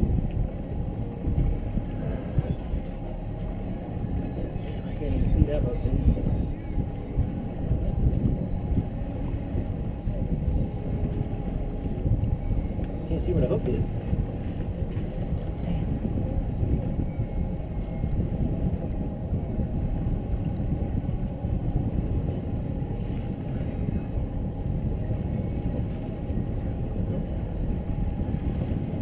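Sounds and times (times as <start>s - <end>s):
faint steady hum: 0.0s - 29.0s
outboard motors rumbling: 0.0s - 29.0s
wind buffeting microphone: 0.0s - 29.0s.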